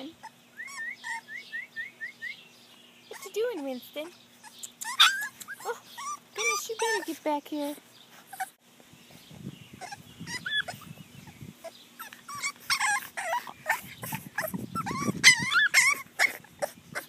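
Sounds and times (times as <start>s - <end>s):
puppies whimpering and yipping: 0.0s - 2.4s, 3.1s - 8.6s, 9.7s - 17.0s.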